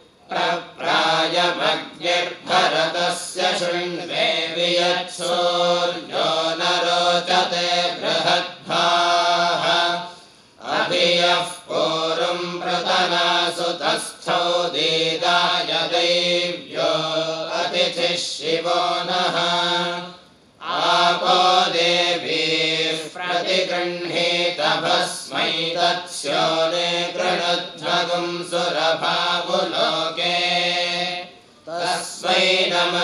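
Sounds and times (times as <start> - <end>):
men chanting in unison: 0.3 - 33.0.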